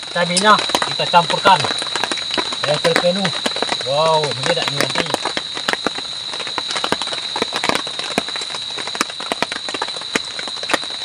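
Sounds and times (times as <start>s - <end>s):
food crackling in hot oil: 0.0s - 11.0s.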